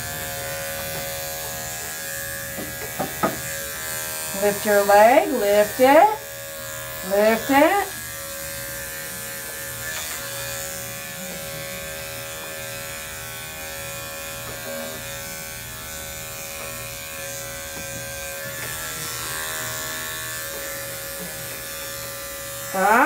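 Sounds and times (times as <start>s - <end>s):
dog clipper buzzing: 0.0s - 23.0s.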